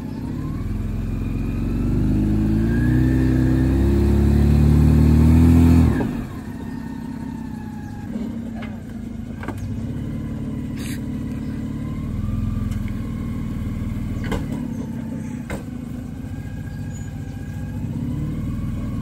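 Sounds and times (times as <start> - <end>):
vehicle engine rumbling under load: 0.0 - 19.0.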